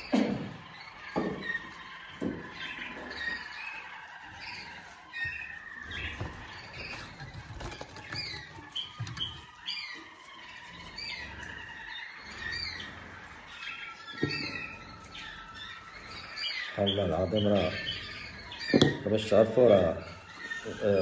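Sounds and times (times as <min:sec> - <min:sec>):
canaries chirping: 0:00.0 - 0:21.0.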